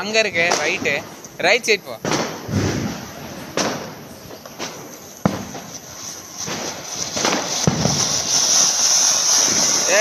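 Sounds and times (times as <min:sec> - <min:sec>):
firecracker bangs: 0:00.0 - 0:10.0
firework fountain hissing: 0:00.0 - 0:10.0.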